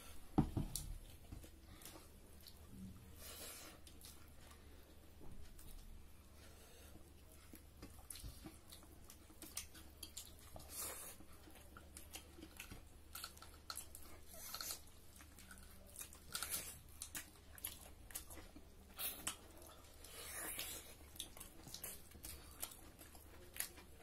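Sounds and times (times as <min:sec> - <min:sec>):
people chewing food: 0:00.0 - 0:24.0.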